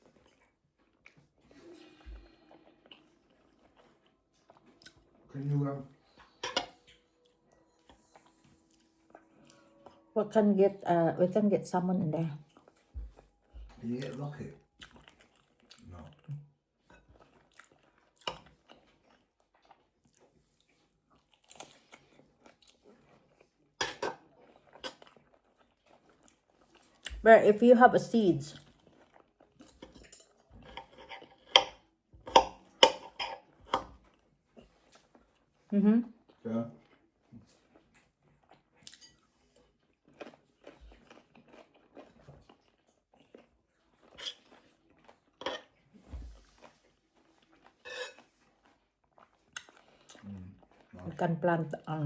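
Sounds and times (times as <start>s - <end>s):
person chewing crunchy food: 0.0s - 5.4s, 12.4s - 27.2s, 28.6s - 51.1s.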